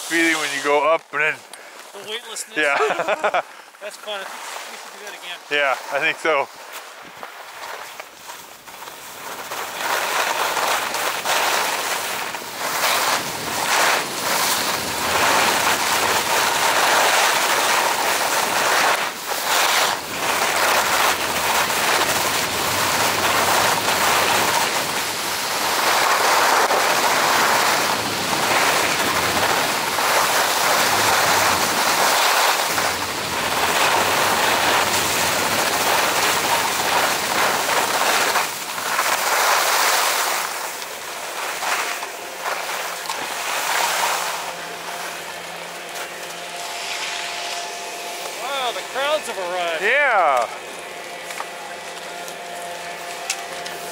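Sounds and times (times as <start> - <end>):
skis scraping on packed snow: 0.0 - 53.9.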